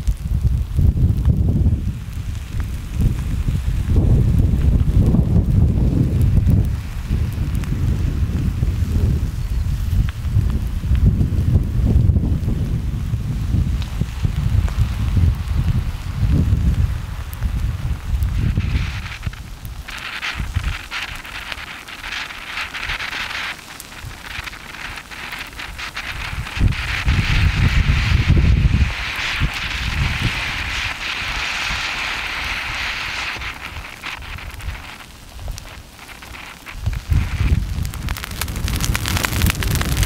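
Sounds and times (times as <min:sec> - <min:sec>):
lava crackles: 0:00.0 - 0:40.0
wind buffeting microphone: 0:00.0 - 0:40.0.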